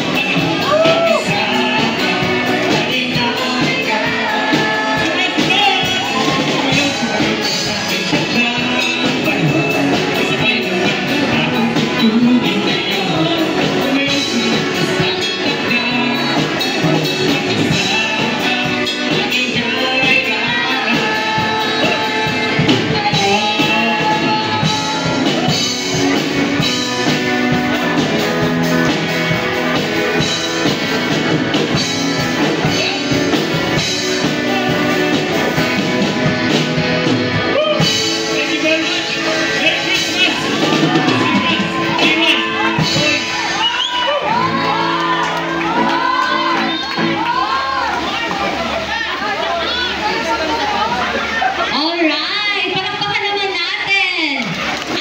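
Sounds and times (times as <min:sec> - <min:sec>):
live rock band with singer: 0:00.0 - 0:55.0.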